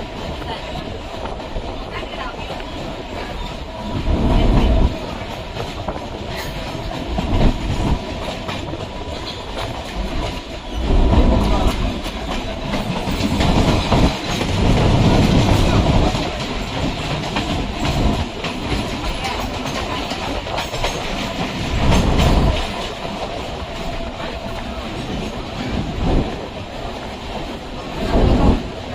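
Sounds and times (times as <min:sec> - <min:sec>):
heavy train rumble: 0:00.0 - 0:28.9
train wheels clattering over rail joints: 0:00.0 - 0:28.9.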